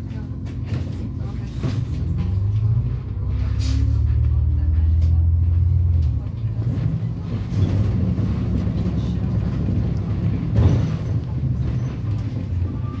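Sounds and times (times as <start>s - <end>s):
bus engine low drone: 0.0s - 13.0s.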